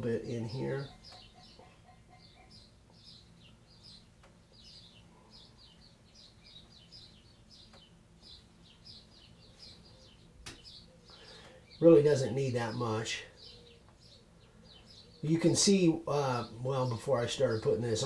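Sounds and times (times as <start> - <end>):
small bird chirping: 0.0 - 16.5
low steady hum: 0.0 - 18.0.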